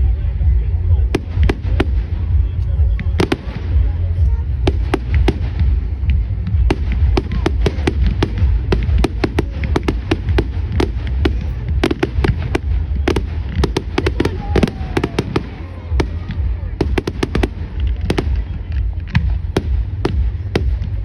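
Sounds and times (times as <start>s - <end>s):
fireworks cracking and banging: 0.0s - 21.0s
steady low rumble: 0.0s - 21.0s.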